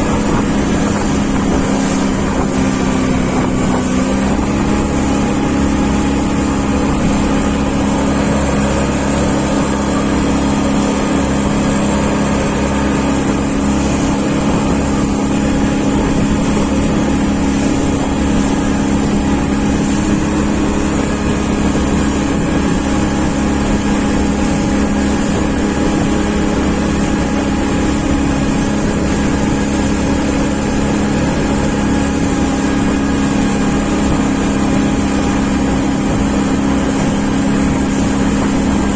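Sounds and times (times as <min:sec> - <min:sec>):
engine humming steadily: 0:00.0 - 0:38.9.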